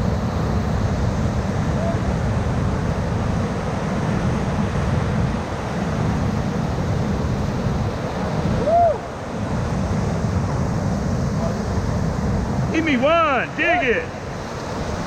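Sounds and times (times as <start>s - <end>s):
wind on microphone: 0.0s - 15.0s
whitewater rushing: 0.5s - 15.0s.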